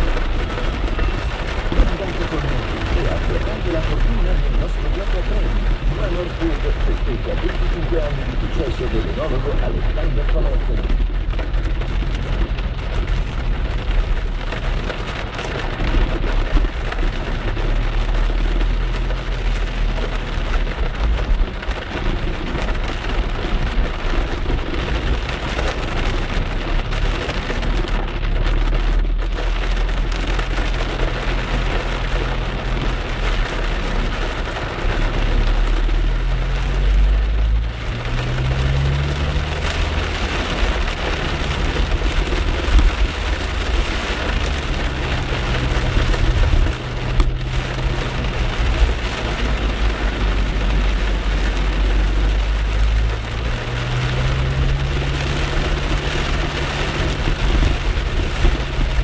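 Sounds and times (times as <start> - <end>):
car engine and tyre rumble: 0.0 - 59.0
heavy rain on car: 0.0 - 59.0.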